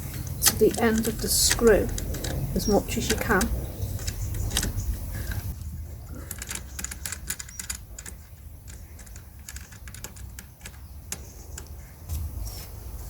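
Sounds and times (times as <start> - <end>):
screws clicking as unscrewed: 0.0 - 5.6, 6.3 - 11.8.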